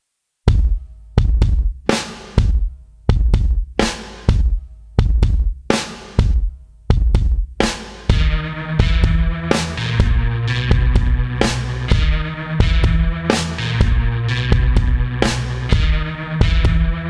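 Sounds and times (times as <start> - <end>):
drum kit hits with heavy bass: 0.5 - 17.0.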